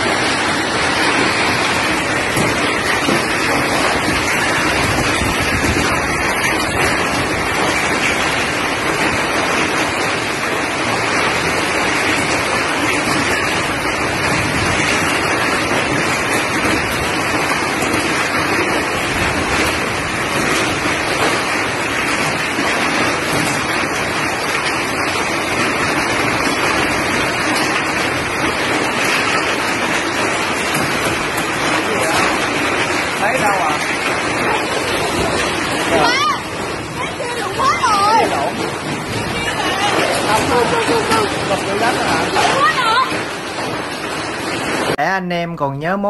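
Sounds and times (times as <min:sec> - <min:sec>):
heavy rain and hail falling: 0:00.0 - 0:46.0.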